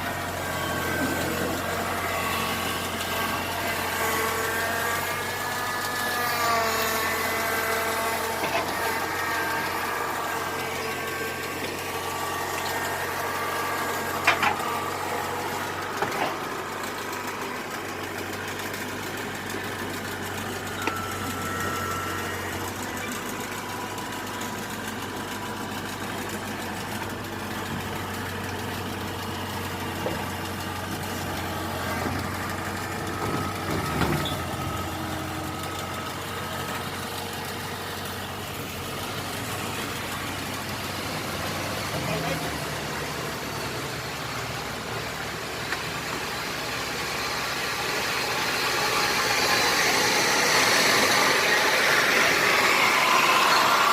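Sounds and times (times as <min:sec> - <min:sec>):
engine idling: 0:00.0 - 0:53.9.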